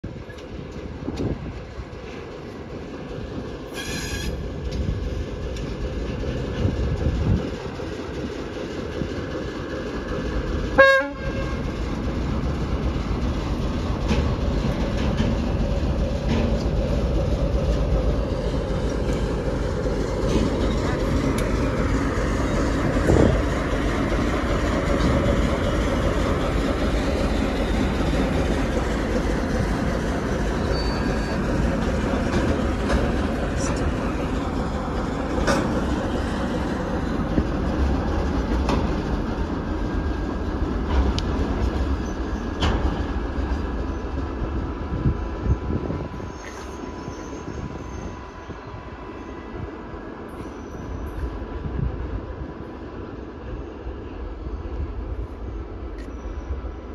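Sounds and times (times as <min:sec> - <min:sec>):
locomotive engine rumble: 0:00.0 - 0:56.9
train wheels on the track: 0:00.0 - 0:56.9.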